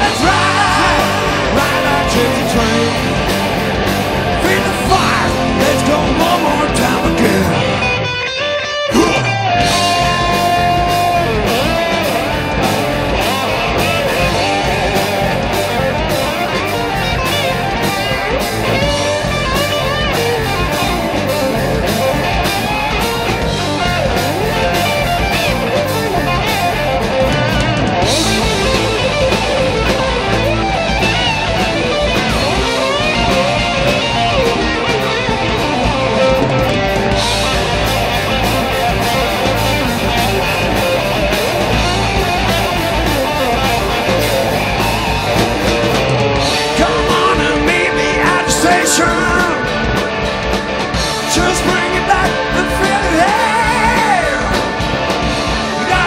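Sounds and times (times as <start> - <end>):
drums and bass: 0.0 - 56.0
electric guitar lead: 0.0 - 56.0.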